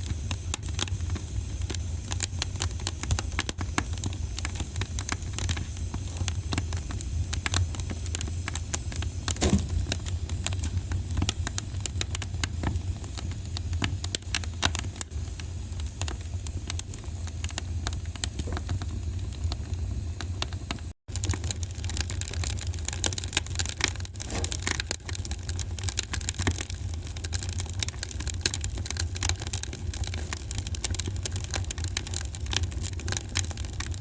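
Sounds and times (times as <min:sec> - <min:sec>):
low fire rumble: 0:00.0 - 0:34.0
wood fire crackling and popping: 0:00.0 - 0:34.0.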